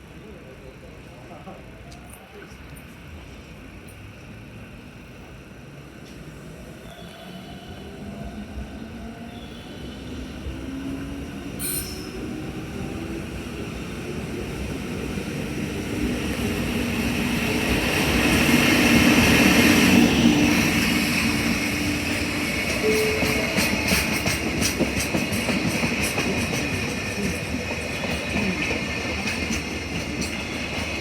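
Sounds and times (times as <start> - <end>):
freight train passing: 0.0 - 31.0.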